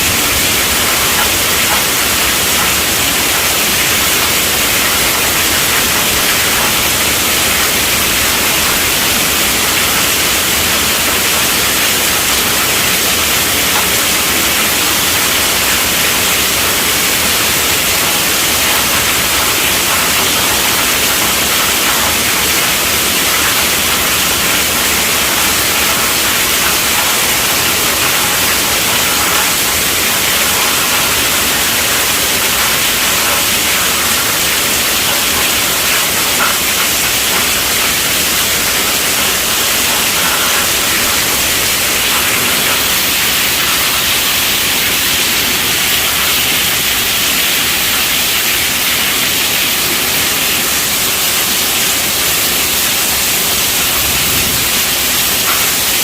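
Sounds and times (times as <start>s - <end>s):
heavy rain on a tent roof: 0.0s - 56.0s.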